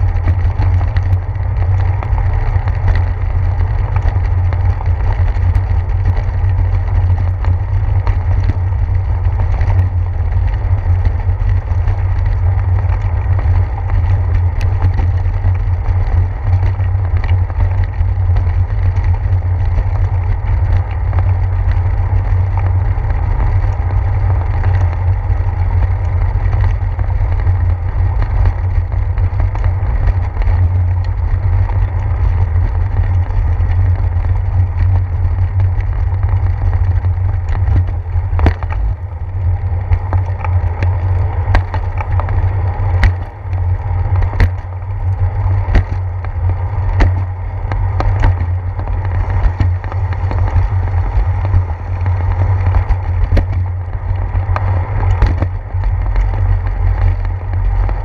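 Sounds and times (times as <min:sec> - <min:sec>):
wind and road rumble: 0:00.0 - 0:58.0.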